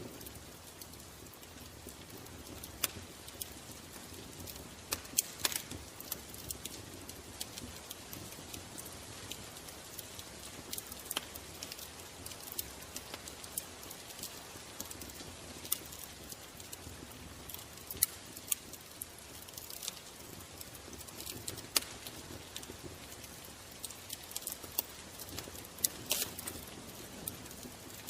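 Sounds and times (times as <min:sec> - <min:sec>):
crackles and snaps: 0:00.0 - 0:28.0.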